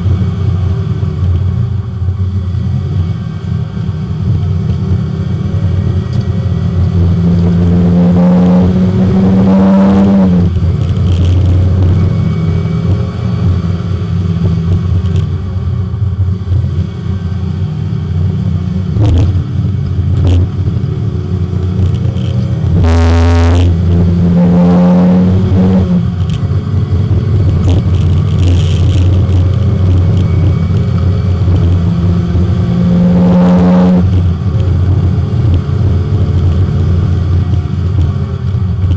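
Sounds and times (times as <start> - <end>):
race car engine accelerating: 2.7 - 15.4, 16.5 - 38.8.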